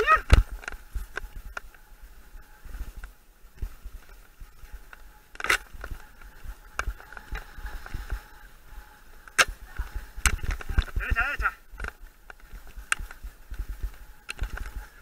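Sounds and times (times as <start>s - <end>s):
bike rumbling over rough trail: 0.0s - 15.0s.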